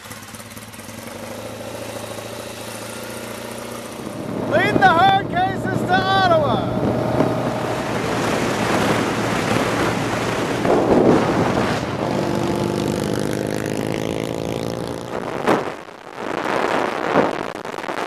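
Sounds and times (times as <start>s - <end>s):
motorcycle engines running: 0.0s - 16.0s
wind rushing over microphone: 2.5s - 18.0s.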